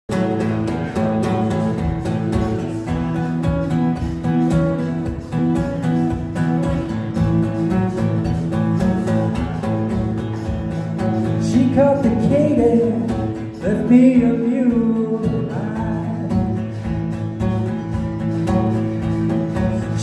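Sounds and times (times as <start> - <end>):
acoustic guitar blues strumming: 0.1 - 20.0.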